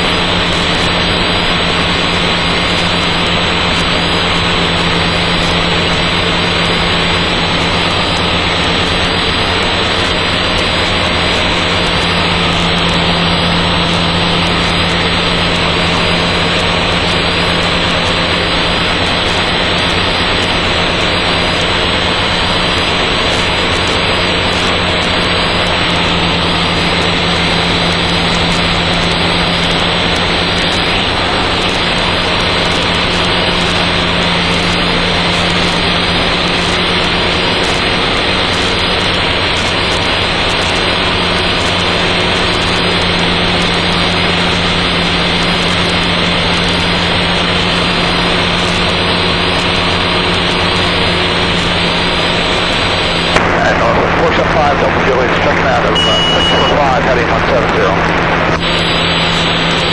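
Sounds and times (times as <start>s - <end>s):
aircraft engine and propeller drone: 0.0s - 59.9s
airflow noise: 0.0s - 59.9s
low hum: 0.0s - 59.9s.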